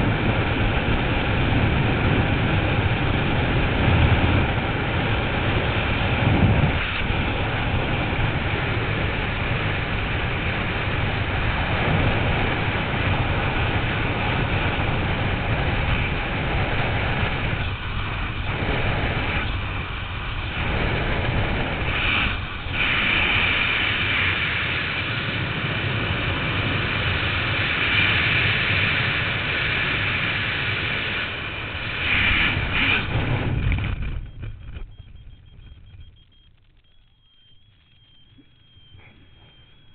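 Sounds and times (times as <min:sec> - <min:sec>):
wind buffeting microphone: 0:00.0 - 0:36.2.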